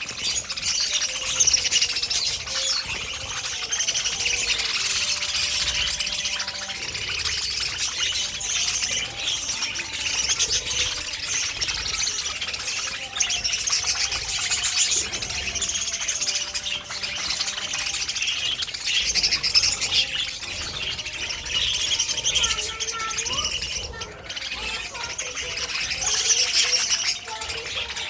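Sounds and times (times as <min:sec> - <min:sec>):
budgies chirping and warbling: 0:00.0 - 0:28.0.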